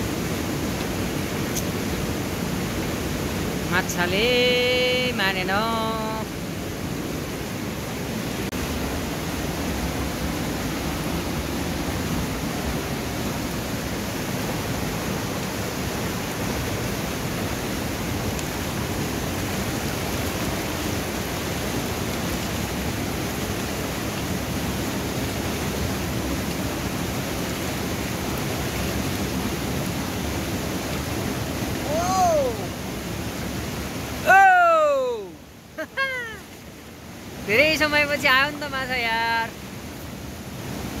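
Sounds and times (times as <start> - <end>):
fast-flowing river water: 0.0 - 41.0.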